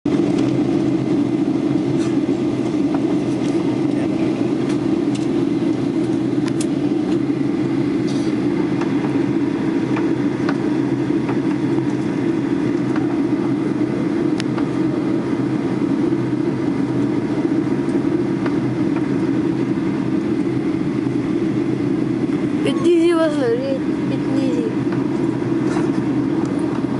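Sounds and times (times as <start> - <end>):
airliner cabin drone: 0.1 - 26.9.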